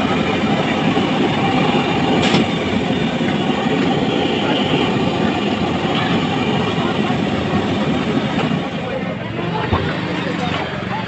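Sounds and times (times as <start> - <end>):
burner flame roaring: 0.0 - 11.0.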